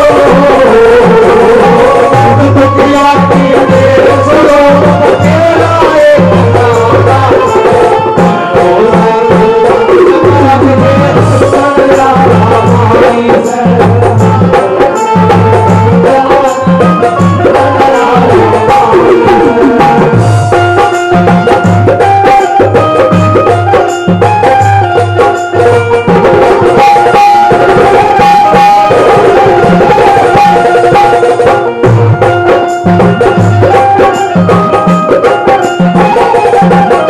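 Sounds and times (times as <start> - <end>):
steady drum beat: 0.0 - 37.0.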